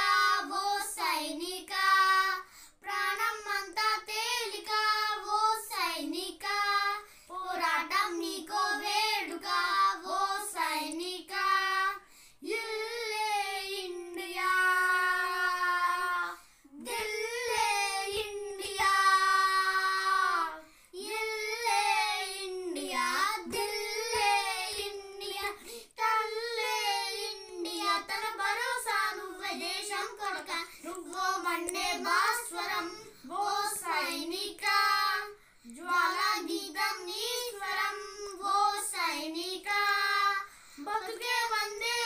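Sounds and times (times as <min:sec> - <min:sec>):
boys singing unaccompanied: 0:00.0 - 0:42.0.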